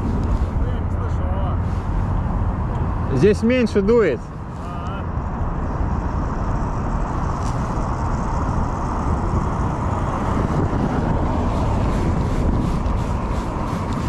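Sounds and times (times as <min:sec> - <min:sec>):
wind on microphone: 0:00.0 - 0:03.3, 0:04.3 - 0:14.0
city traffic rumble: 0:00.0 - 0:14.0.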